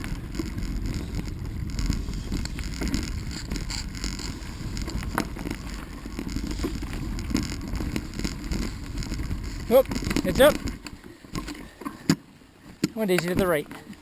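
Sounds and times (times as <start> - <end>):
wind buffeting microphone: 0.0 - 11.5
bicycle tyres rumbling on dirt: 0.0 - 14.0.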